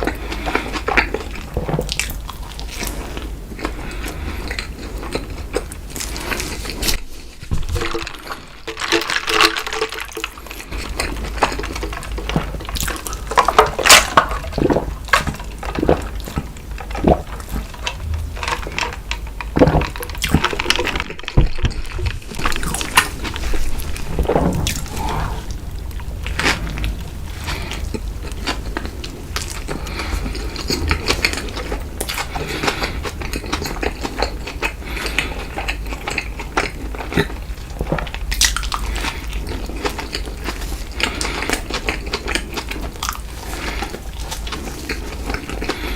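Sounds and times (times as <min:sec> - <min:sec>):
person chewing: 0:00.0 - 0:45.9.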